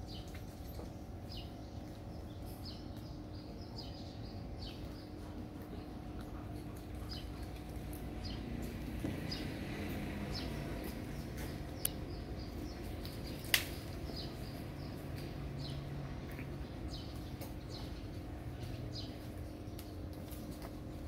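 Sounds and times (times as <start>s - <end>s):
low outdoor hum: 0.0s - 21.0s.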